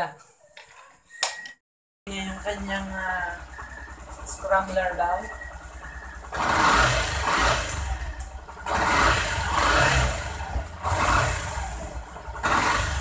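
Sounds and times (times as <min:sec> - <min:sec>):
motorcycle engine revving: 0:02.1 - 0:13.0.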